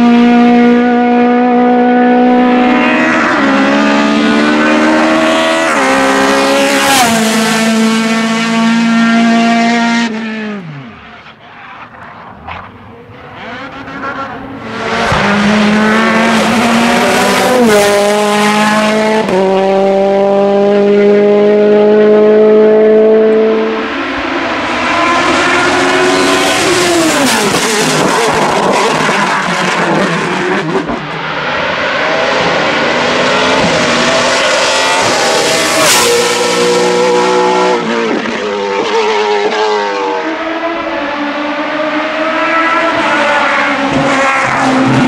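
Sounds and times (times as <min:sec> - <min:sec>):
race car engine accelerating: 0:00.0 - 0:45.0.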